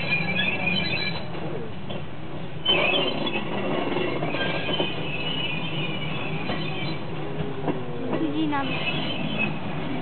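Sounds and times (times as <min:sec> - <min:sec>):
high-pitched wheel squeal: 0:00.0 - 0:01.4, 0:02.6 - 0:07.8, 0:08.5 - 0:10.0
diesel railcar engine running: 0:00.0 - 0:10.0.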